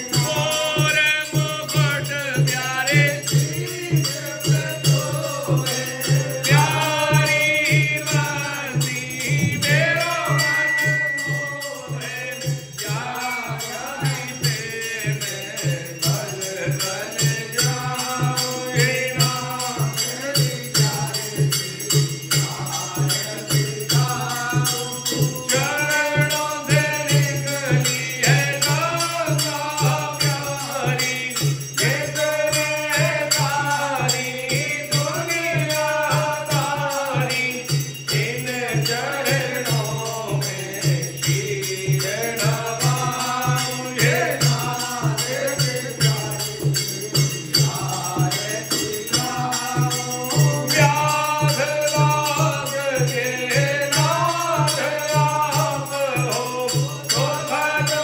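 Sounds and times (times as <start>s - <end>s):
devotional hymn singing: 0.0s - 58.0s
ringing bells and jingling percussion: 0.0s - 58.0s.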